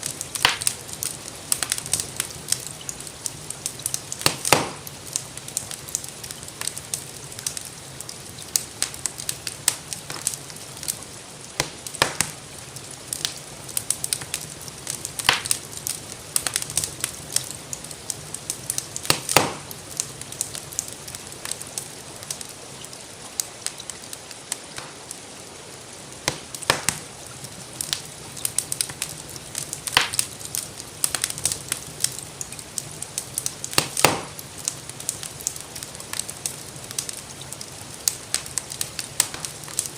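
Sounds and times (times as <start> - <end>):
rain falling: 0.0 - 39.9
wood fire crackling: 0.0 - 39.9.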